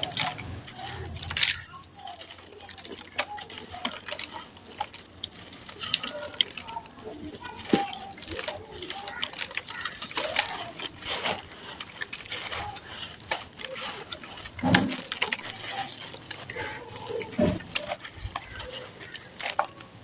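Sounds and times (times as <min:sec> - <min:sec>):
brittle chunks crunching by hand: 0:00.0 - 0:20.0.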